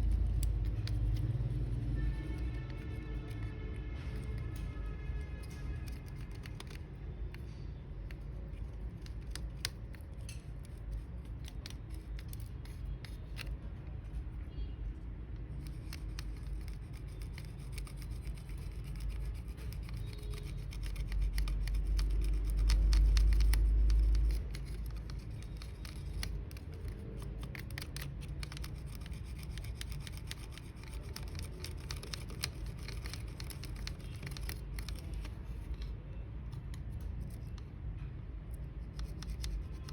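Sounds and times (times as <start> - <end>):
small tools clicking and scratching: 0.0 - 14.4, 15.3 - 37.9, 38.5 - 39.9.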